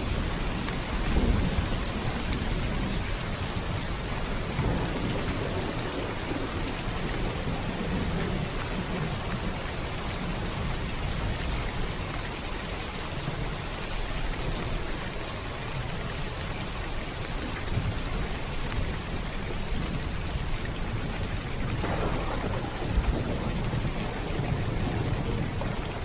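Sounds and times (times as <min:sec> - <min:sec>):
heavy rain on a roof: 0:00.0 - 0:26.0.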